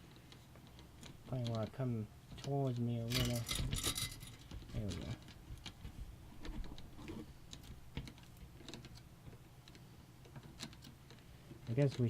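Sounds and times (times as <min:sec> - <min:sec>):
computer parts clicking and tapping: 0:00.1 - 0:05.8, 0:06.4 - 0:12.0.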